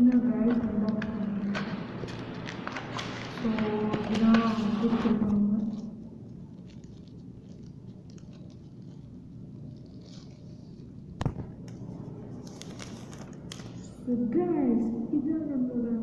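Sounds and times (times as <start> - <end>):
steady background noise: 0.0 - 16.0
plastic film rustling: 0.4 - 14.0.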